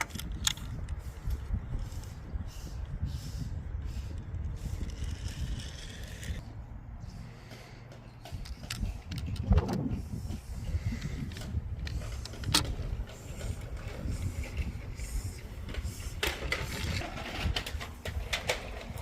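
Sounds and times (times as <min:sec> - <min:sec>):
toy car wheels rumbling: 0:02.8 - 0:06.4, 0:07.4 - 0:19.0.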